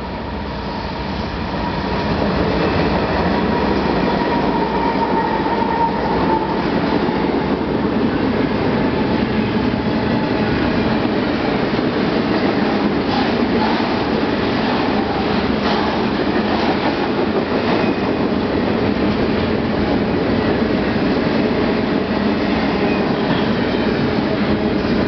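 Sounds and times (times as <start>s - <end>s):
diesel locomotives passing: 0.0s - 25.0s.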